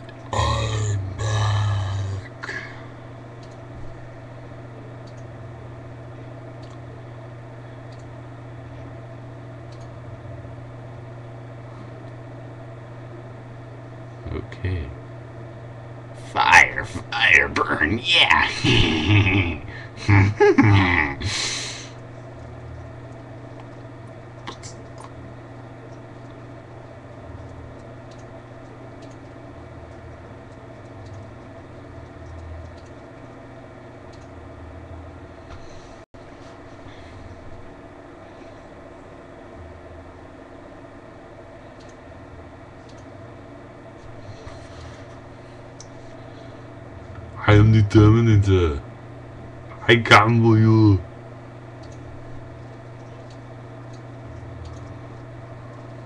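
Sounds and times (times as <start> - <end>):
computer humming: 0.0 - 56.0.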